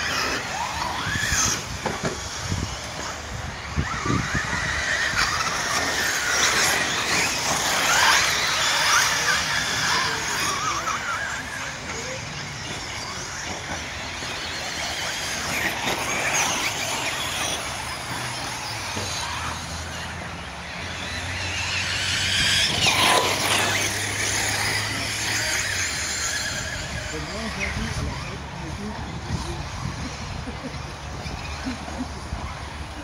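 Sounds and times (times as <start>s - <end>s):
rc car motors whining: 0.0s - 33.0s.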